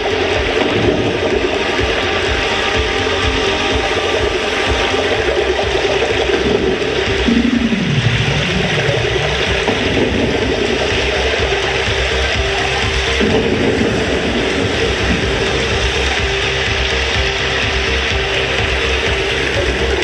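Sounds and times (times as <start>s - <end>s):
held low tone: 0.0s - 20.0s
low tone gliding downward: 0.0s - 20.0s
steady rushing noise: 0.0s - 20.0s.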